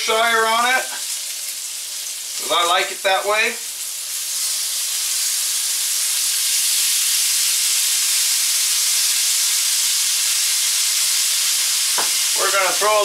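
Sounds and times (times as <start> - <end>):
steak sizzling in skillet: 0.0 - 13.0.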